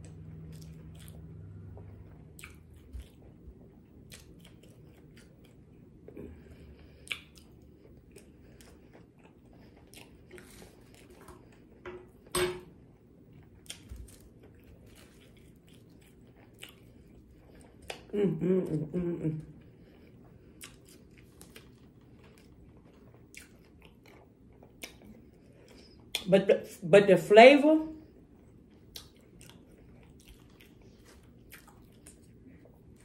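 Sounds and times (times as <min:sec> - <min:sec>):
chewing mouth sounds: 0:00.0 - 0:11.7, 0:13.6 - 0:18.1, 0:19.8 - 0:26.3, 0:28.4 - 0:33.0.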